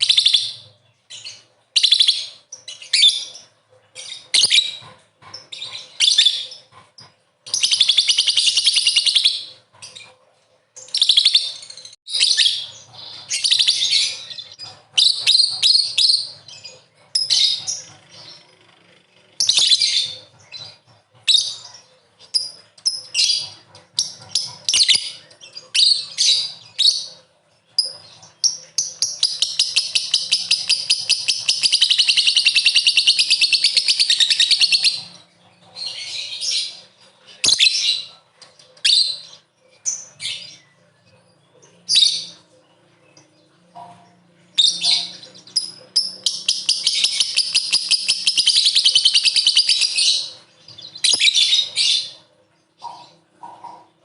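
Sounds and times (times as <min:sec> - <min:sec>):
lovebird chirping and chattering: 0:00.0 - 0:54.0.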